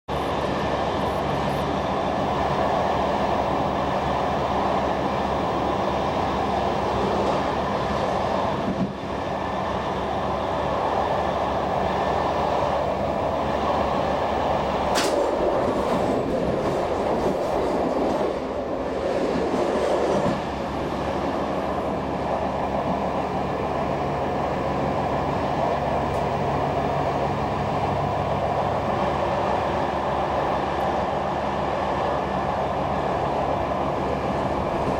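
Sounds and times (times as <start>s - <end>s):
train wheels rumbling on rail: 0.1s - 34.9s.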